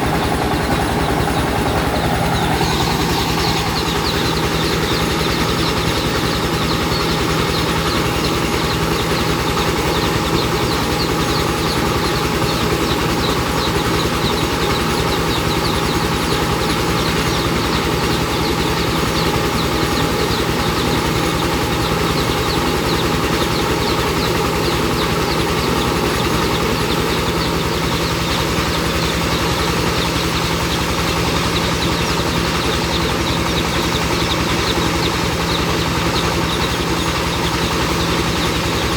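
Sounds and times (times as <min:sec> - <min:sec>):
milling machine droning: 0:00.0 - 0:38.9.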